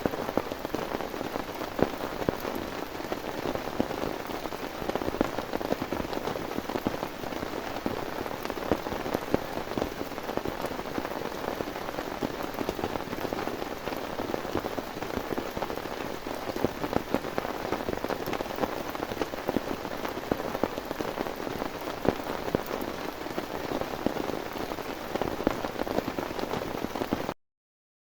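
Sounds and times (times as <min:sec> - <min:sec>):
heavy rain falling: 0:00.0 - 0:27.4.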